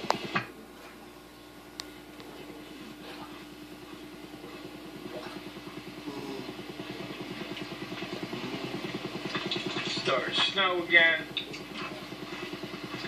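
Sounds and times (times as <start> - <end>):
engine running with low pulsing: 0.0 - 13.0.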